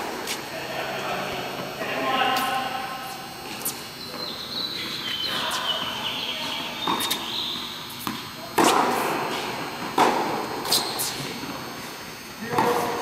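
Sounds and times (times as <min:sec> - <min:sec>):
tennis balls hit by racquets: 0:01.5 - 0:11.8, 0:12.4 - 0:13.0.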